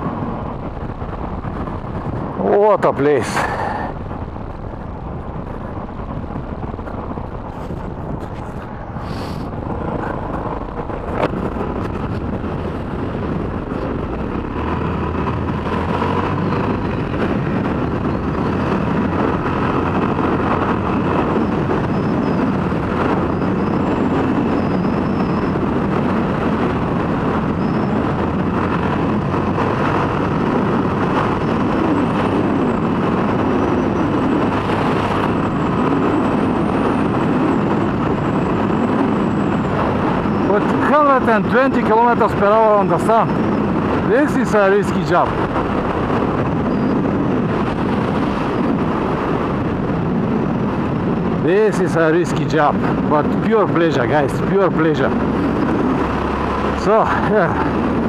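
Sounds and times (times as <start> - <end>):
motorcycle engine at speed: 0.0 - 3.2, 4.0 - 58.0
wind noise: 0.0 - 58.0.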